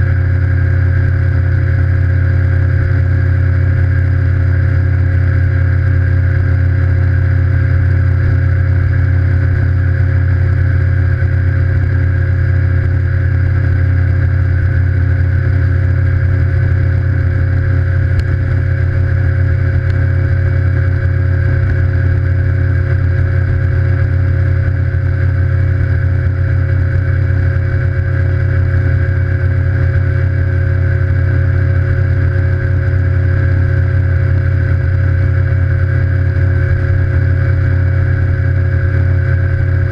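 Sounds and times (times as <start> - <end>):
outboard engine running: 0.0 - 39.9.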